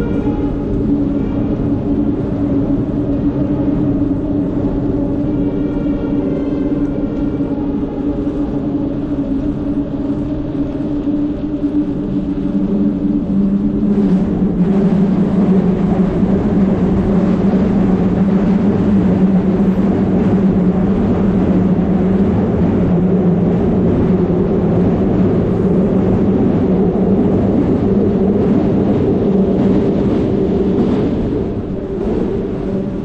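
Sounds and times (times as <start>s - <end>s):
road traffic rumbling drone: 0.0s - 33.0s.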